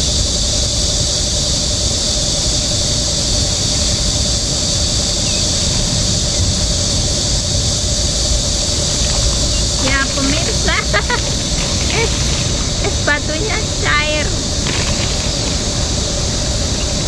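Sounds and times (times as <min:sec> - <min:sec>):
wind rumble on microphone: 0:00.0 - 0:17.0
high-pitched drone: 0:01.5 - 0:17.0.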